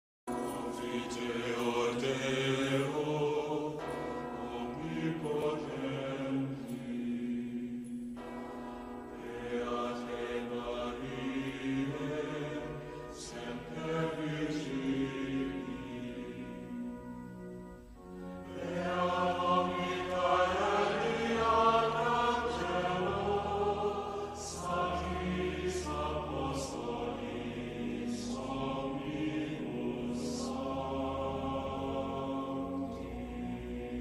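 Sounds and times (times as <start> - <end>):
church bell struck: 0.3 - 29.3
slow orchestral music: 0.3 - 34.0
male choir chanting: 0.4 - 16.9, 18.4 - 34.0.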